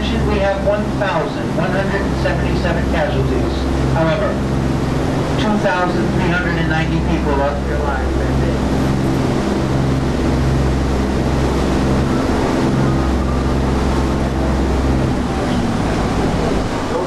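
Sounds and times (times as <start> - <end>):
boat engine droning: 0.0 - 17.0
water noise: 0.0 - 17.0
wind: 0.0 - 17.0.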